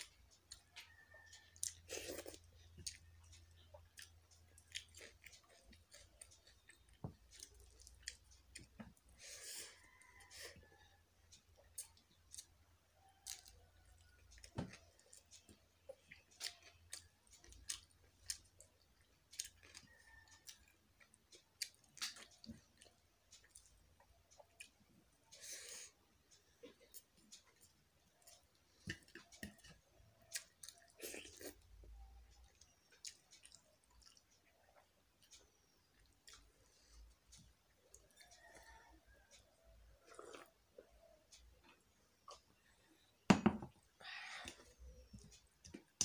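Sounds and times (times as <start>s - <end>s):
close-up chewing: 0.0s - 43.1s.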